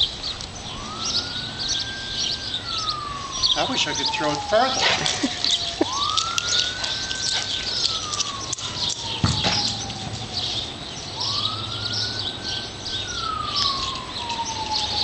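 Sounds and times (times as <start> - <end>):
birds chirping: 0.0 - 15.0
siren wailing: 0.0 - 15.0.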